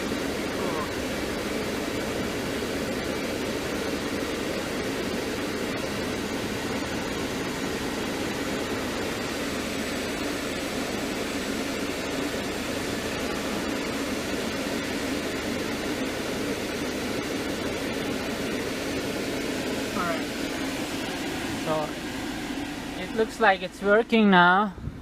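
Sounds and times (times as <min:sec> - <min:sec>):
climate control blower air rush: 0:00.0 - 0:25.0.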